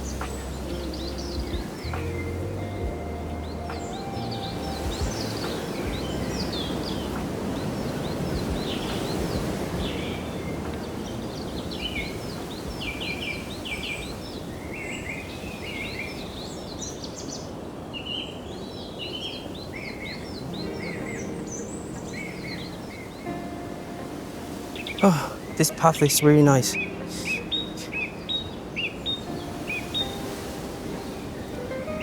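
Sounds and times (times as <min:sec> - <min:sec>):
low rush of outdoor noise: 0:00.0 - 0:32.0.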